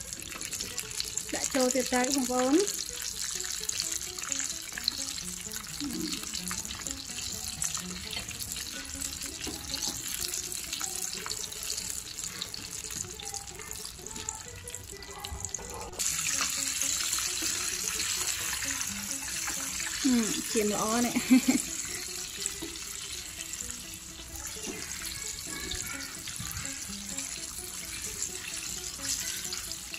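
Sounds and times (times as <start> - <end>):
chicken deep-frying in oil: 0.0 - 29.9.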